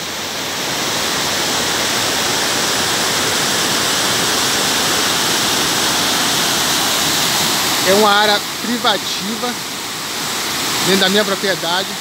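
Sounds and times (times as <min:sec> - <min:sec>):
water rushing down river cascade: 0:00.0 - 0:12.0.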